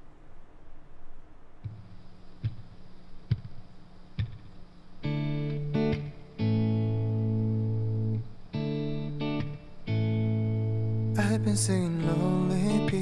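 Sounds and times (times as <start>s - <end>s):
electric guitar chords: 1.7s - 13.0s.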